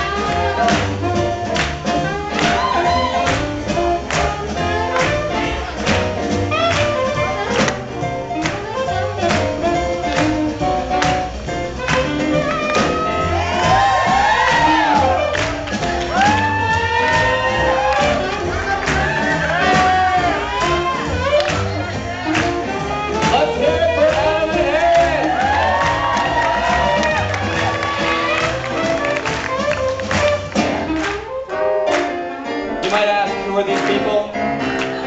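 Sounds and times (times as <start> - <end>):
trombone: 0.0 - 32.2
drums: 0.0 - 35.0
piano: 0.0 - 35.0
upright bass: 0.0 - 35.0.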